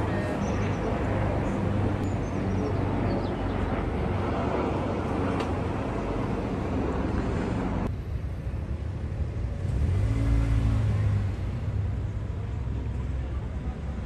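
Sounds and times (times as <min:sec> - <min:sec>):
rumble of passing cars: 0:00.0 - 0:14.0
vehicle engine hum: 0:00.0 - 0:14.0.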